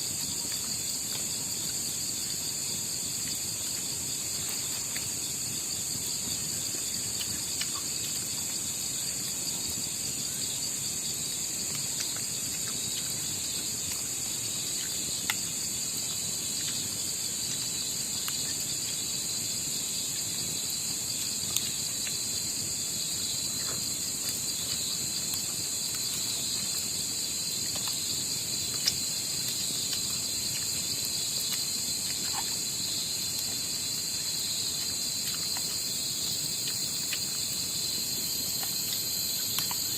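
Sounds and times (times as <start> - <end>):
night insects chirring: 0.0 - 39.9.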